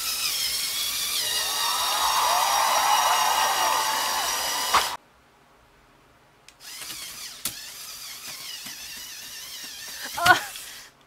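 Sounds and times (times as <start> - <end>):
electric motors and gears whining: 0.0 - 5.0, 6.6 - 11.0.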